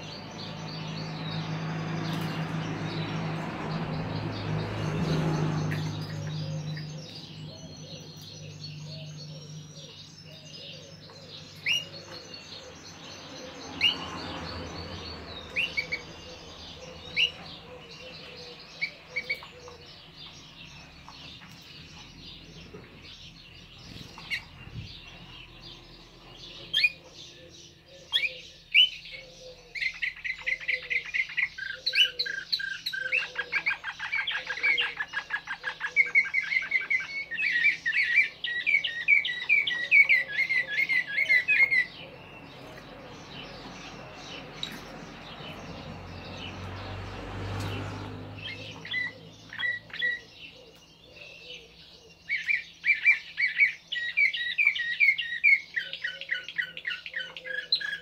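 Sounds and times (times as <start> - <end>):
canary singing with trills: 0.0 - 58.0.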